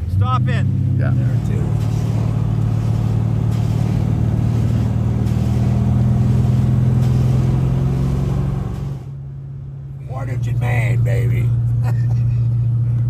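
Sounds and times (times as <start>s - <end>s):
car engine running as car drives off: 0.0s - 13.0s.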